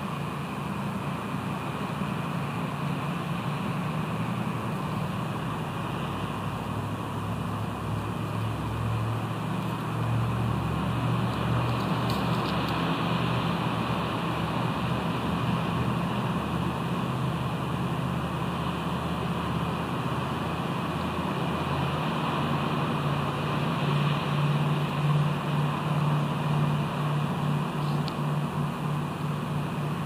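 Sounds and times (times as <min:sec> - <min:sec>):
wind: 0:00.0 - 0:30.0.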